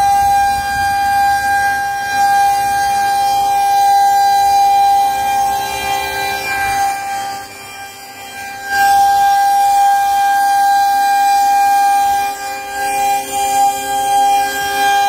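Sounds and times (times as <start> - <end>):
high-pitched warning siren: 0.0 - 15.0.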